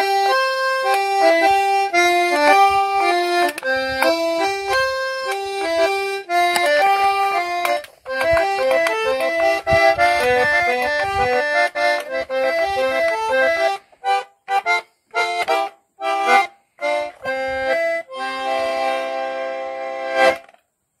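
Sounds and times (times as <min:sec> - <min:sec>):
accordion playing: 0:00.0 - 0:20.6.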